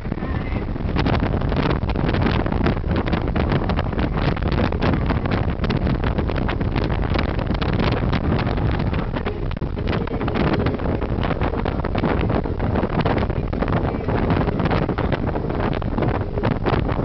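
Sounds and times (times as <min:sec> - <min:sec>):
rush of car and road: 0:00.0 - 0:17.0
wind buffeting microphone: 0:00.0 - 0:17.0.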